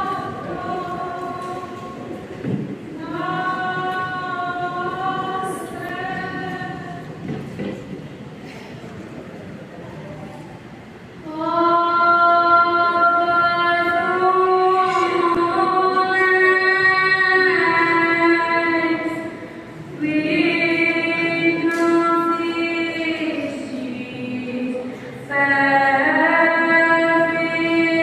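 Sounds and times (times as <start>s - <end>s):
woman singing into a microphone: 0.0s - 7.6s, 11.2s - 28.0s.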